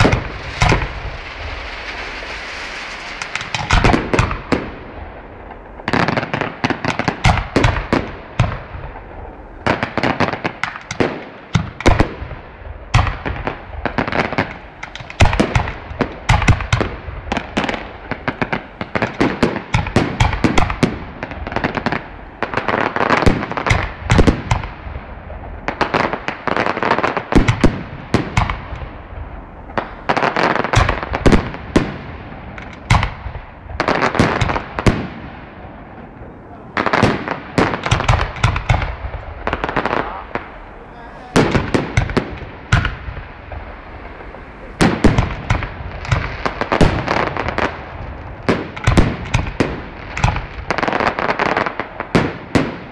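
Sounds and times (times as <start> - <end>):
firework bursts and bangs: 0.0 - 52.9.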